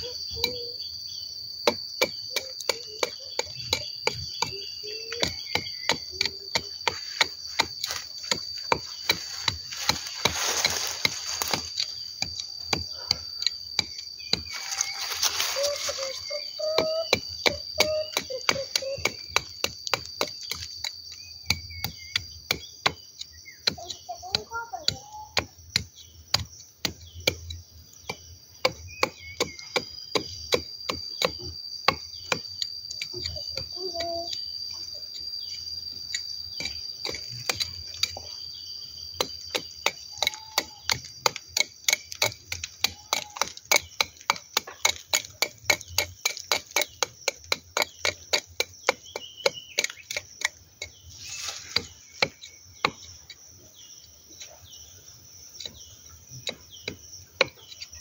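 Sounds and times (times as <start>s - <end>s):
knife chopping tree bark: 1.6s - 34.4s, 36.1s - 53.5s, 55.5s - 58.0s.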